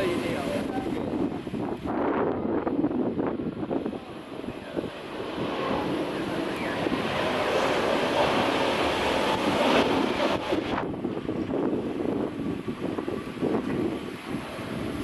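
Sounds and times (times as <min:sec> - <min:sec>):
jet engine roar passing: 0:00.0 - 0:15.0.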